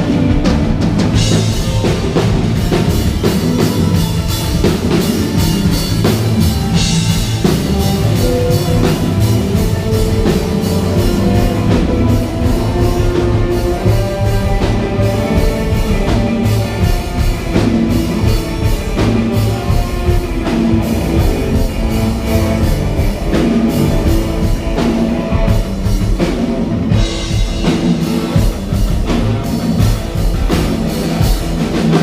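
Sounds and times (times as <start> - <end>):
rock music with drums and guitar: 0.0 - 32.0.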